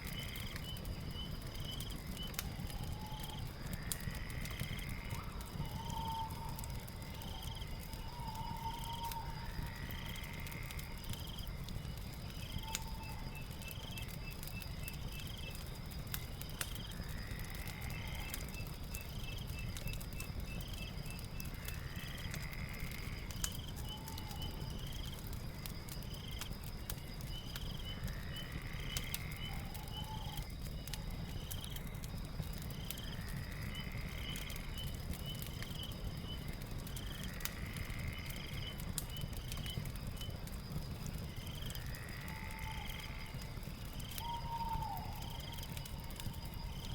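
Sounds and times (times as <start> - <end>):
fire crackling and popping: 0.0 - 46.9.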